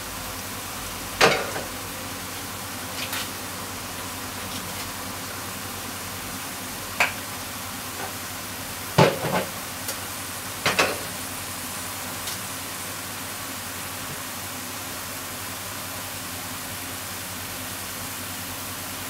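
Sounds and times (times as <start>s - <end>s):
vegetables sizzling in a frying pan: 0.0s - 19.0s.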